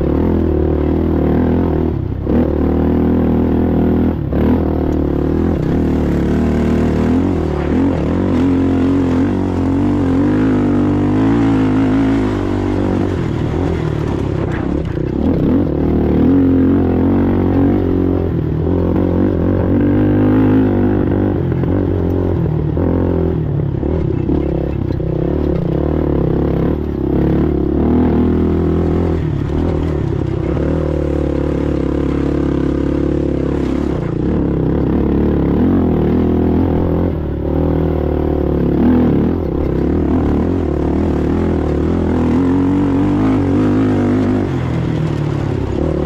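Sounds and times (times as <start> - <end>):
atv engine running hard: 0.0 - 46.0.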